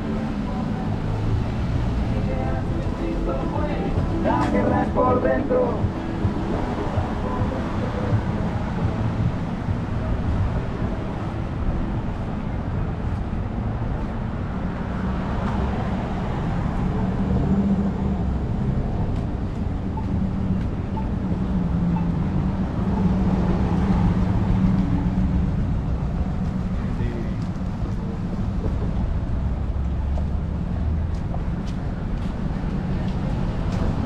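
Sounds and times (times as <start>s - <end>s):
street traffic drone: 0.0s - 34.0s.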